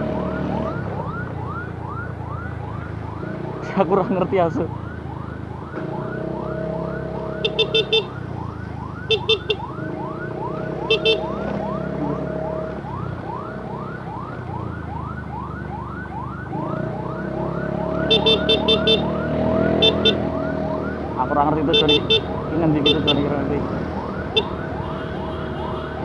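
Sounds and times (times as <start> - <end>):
ambulance siren yelping: 0.0 - 26.0
low road noise: 0.0 - 26.0.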